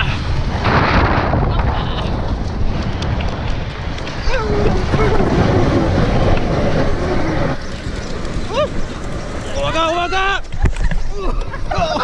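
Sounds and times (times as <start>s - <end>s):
wind buffeting microphone: 0.0s - 12.0s
snow tube sliding over snow: 1.5s - 12.0s.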